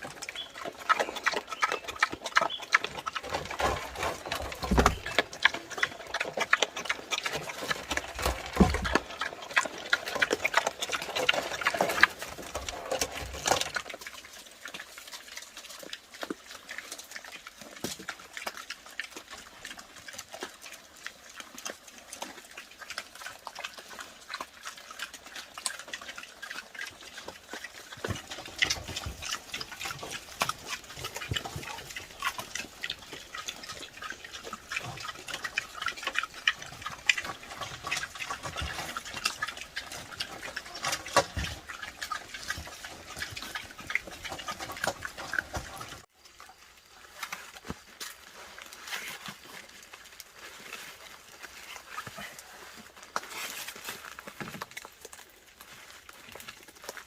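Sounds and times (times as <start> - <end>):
wild boars eating: 0.0 - 57.0.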